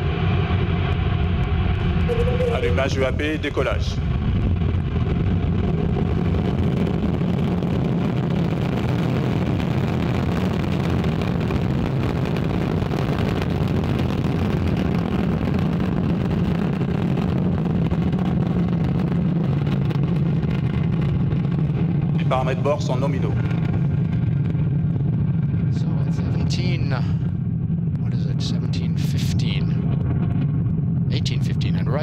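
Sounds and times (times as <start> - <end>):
rocket engine deep rumble: 0.0 - 32.0.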